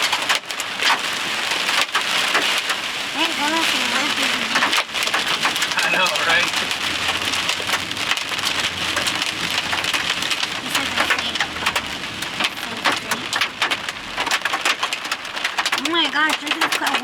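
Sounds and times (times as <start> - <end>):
heavy rain on a vehicle: 0.0 - 17.0.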